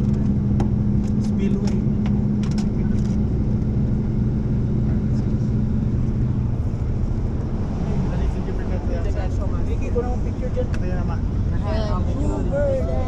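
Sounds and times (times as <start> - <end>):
bus engine droning: 0.0 - 13.0
road rumble: 0.0 - 13.0.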